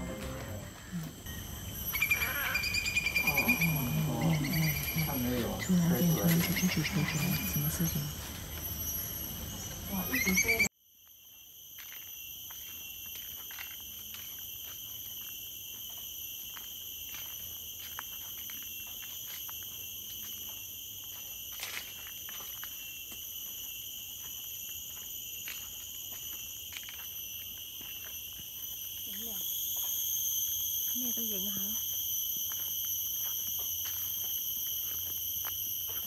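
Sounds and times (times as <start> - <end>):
forest insects chorus: 0.0 - 36.0.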